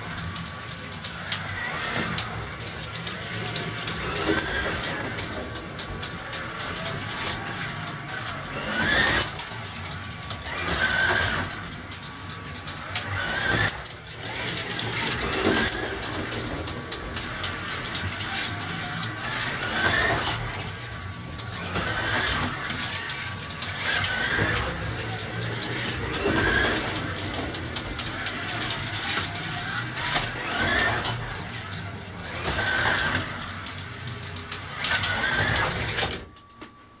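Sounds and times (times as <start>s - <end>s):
car clicking along rails: 0.0s - 36.8s
slot car motor whine: 0.0s - 37.0s.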